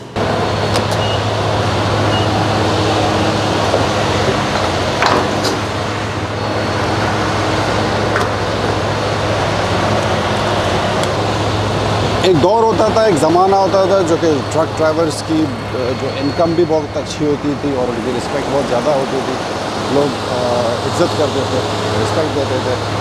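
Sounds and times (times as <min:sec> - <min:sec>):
road noise: 0:00.0 - 0:23.0
vehicle running hum: 0:00.0 - 0:23.0.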